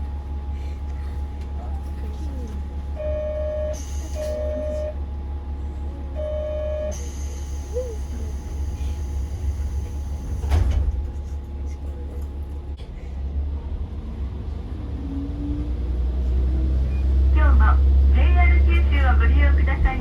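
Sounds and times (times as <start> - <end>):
railcar engine rumble: 0.0 - 20.0.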